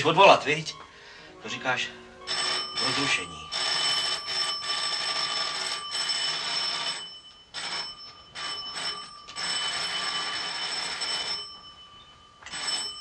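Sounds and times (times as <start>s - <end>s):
electric doorbell ringing: 2.2s - 13.0s.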